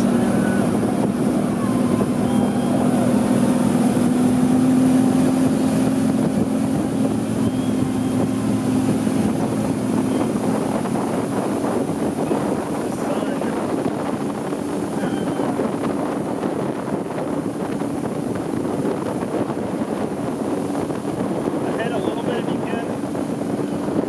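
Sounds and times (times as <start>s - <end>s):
motorboat engine running: 0.0s - 24.0s
water noise: 0.0s - 24.0s
wind noise: 0.0s - 24.0s.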